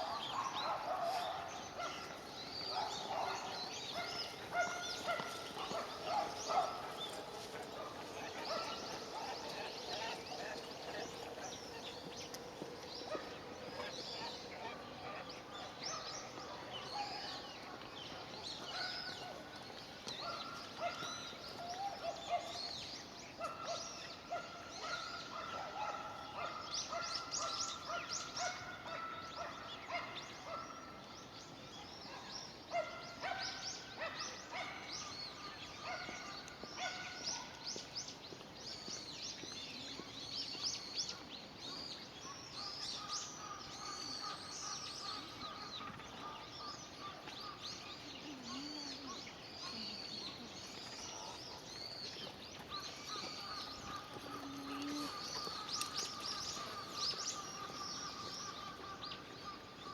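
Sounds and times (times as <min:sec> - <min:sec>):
birds chirping in chorus: 0:00.0 - 0:59.9.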